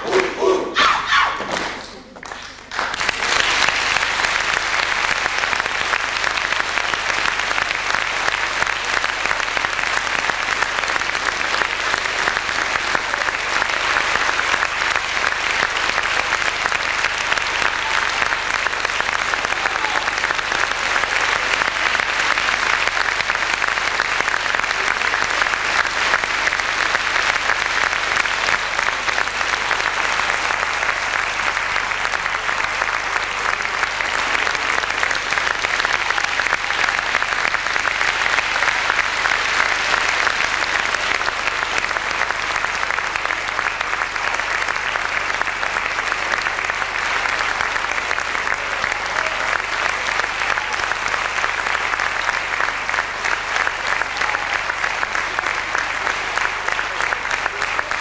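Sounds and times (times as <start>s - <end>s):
audience applauding: 0.0s - 58.0s.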